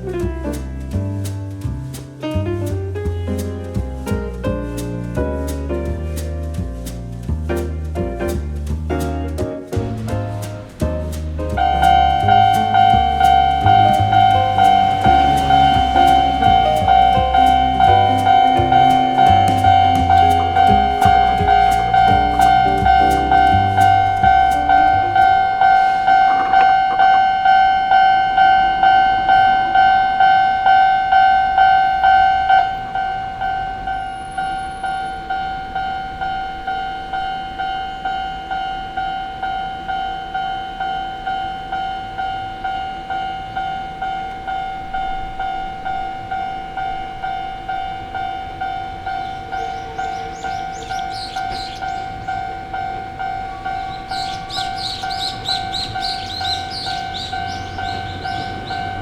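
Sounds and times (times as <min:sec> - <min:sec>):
faint high-pitched sounds: 0:09.9 - 0:59.0
level crossing bell ringing: 0:11.6 - 0:59.0.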